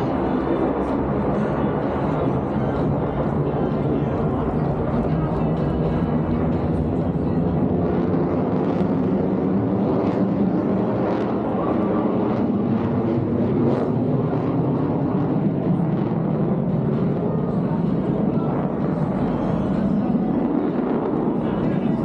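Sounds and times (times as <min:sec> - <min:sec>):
fighter jet engines rumbling: 0:00.0 - 0:22.0.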